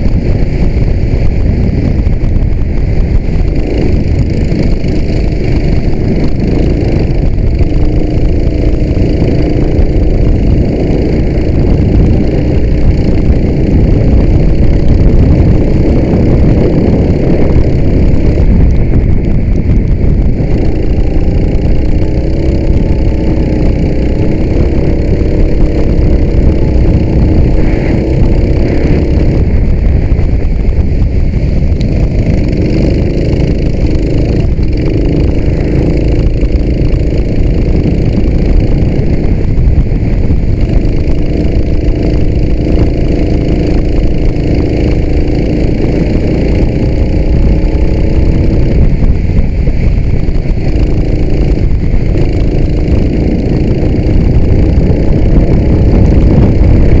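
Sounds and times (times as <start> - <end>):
loud low rumble: 0.0 - 57.0
go-kart engine accelerating: 3.4 - 18.6, 19.6 - 29.5, 31.0 - 39.3, 39.9 - 49.0, 50.7 - 57.0.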